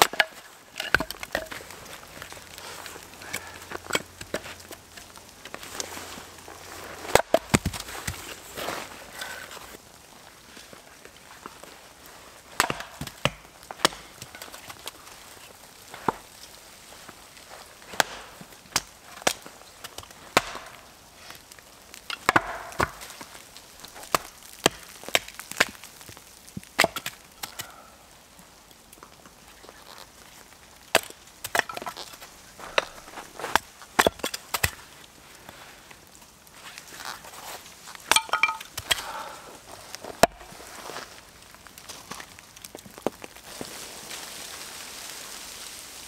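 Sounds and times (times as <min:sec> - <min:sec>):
wood cracking and splintering: 0:00.0 - 0:11.7, 0:12.3 - 0:46.0.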